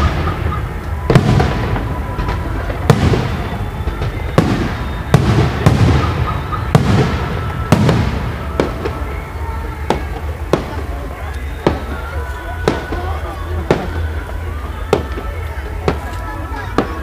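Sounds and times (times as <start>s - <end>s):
fireworks crackle: 0.0s - 17.0s
fireworks shells bursting: 0.0s - 17.0s.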